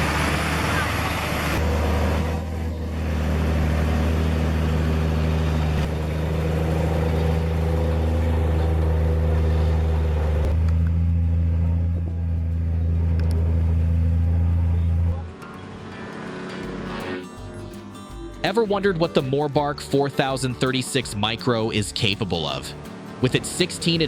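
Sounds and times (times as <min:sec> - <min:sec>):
heavy truck engine running: 0:00.0 - 0:24.0.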